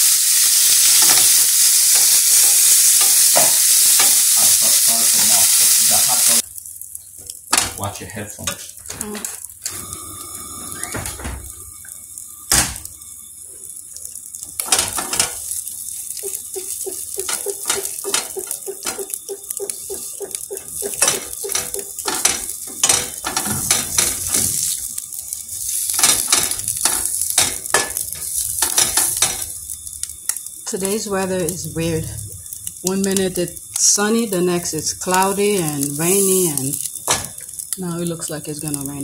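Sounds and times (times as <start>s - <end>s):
food sizzling in a frying pan: 0.0s - 39.0s.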